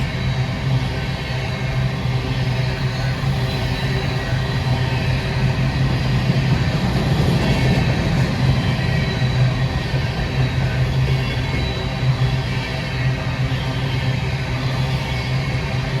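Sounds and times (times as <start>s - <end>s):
diesel locomotive engines humming: 0.0s - 16.0s.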